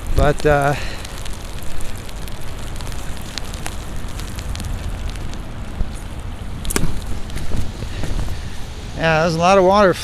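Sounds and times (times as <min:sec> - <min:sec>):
drops ticking close by: 0:00.0 - 0:08.7
continuous low rumble: 0:00.0 - 0:10.0
steady rain falling: 0:00.0 - 0:10.0.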